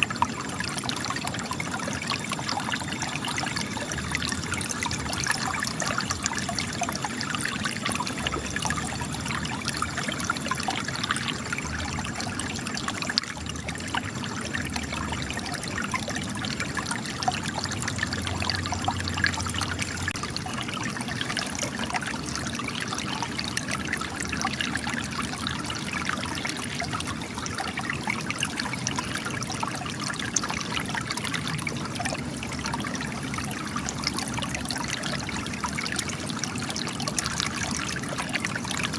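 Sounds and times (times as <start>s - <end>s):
water trickling and splashing on rocks: 0.0s - 38.9s.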